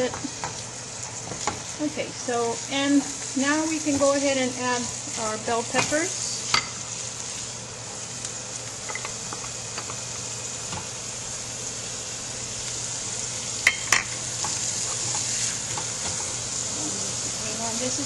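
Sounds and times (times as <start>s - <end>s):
food sizzling in a skillet: 0.0s - 18.0s.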